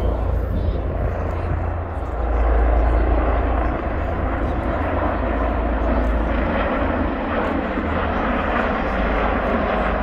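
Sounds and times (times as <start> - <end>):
helicopter flying overhead: 0.0 - 10.0.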